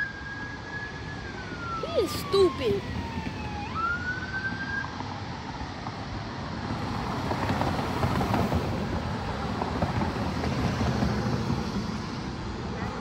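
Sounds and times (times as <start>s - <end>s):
vehicle passing on street: 0.7s - 13.0s.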